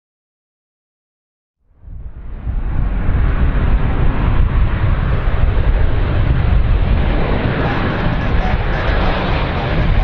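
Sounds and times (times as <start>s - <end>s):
jet engines rumbling: 1.7s - 10.0s
wind on microphone: 1.7s - 10.0s.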